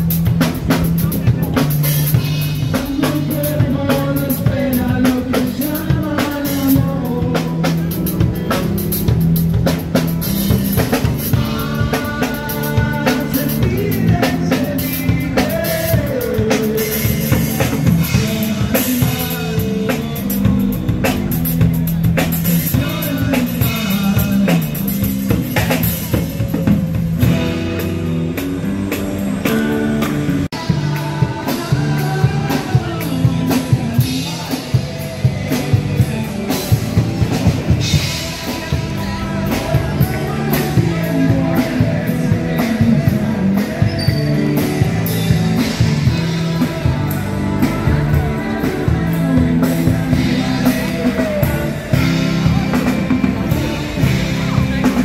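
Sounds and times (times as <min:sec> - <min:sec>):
band music: 0:00.0 - 0:55.0
drum kit beat: 0:00.0 - 0:55.0.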